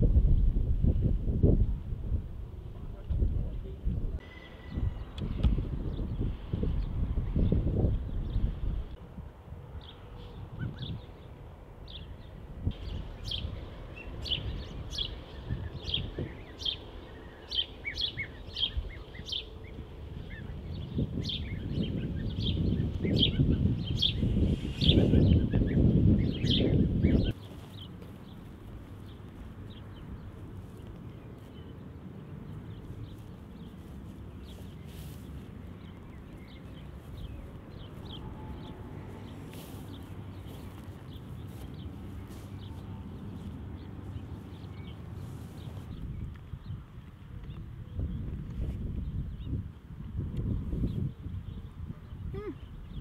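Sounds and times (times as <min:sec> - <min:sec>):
low outdoor rumble: 0:00.0 - 0:53.0
bird chirping: 0:04.2 - 0:08.9, 0:09.7 - 0:48.4.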